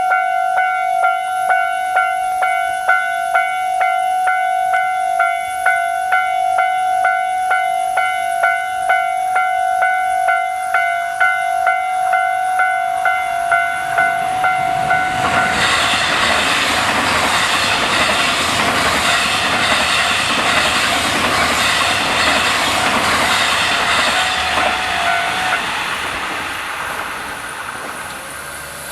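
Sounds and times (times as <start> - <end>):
level-crossing alarm clanging: 0.0 - 28.8
electric train running: 1.1 - 28.9.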